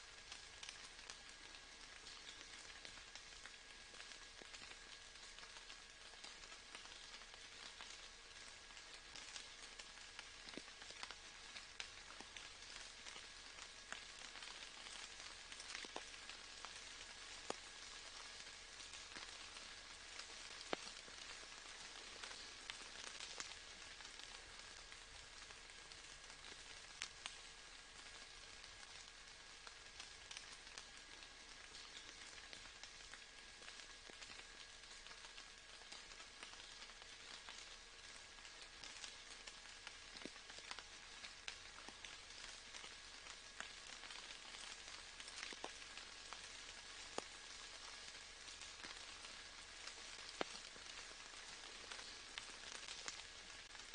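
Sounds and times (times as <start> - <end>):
soft rain hissing: 0.0 - 53.9
single raindrops ticking: 0.1 - 53.9.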